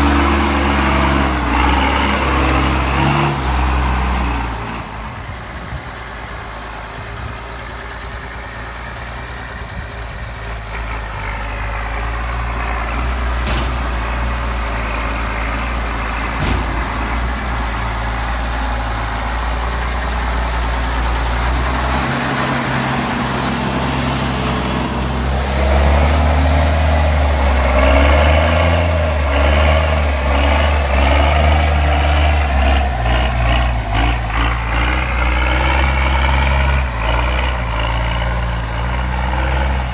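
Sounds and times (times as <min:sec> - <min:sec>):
tractor engine working: 0:00.0 - 0:39.9.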